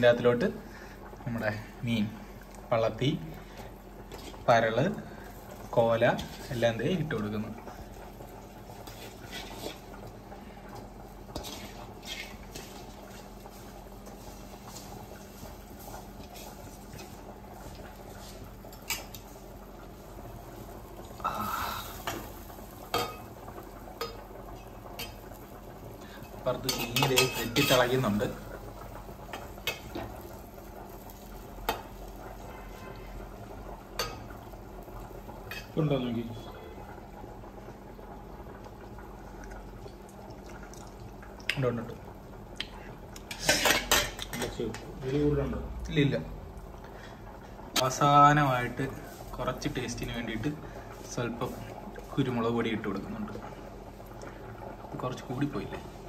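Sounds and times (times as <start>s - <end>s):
curry bubbling in a pot: 0.0s - 56.0s.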